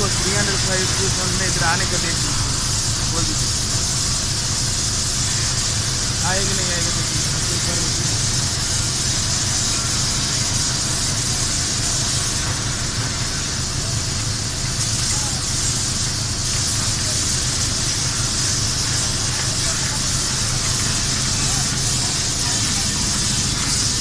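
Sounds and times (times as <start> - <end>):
low machine hum: 0.0 - 24.0
paint spray gun hissing: 0.0 - 24.0.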